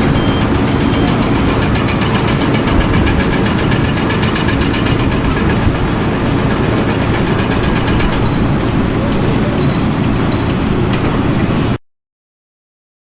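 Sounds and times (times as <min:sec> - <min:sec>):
machinery rumbling: 0:00.0 - 0:11.8.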